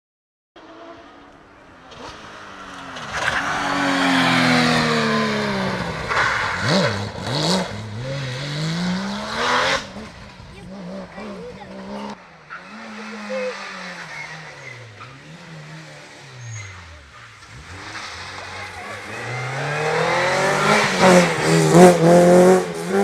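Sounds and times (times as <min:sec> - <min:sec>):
rally car engine passing: 0:00.6 - 0:23.0
engine rev blips: 0:02.7 - 0:23.0.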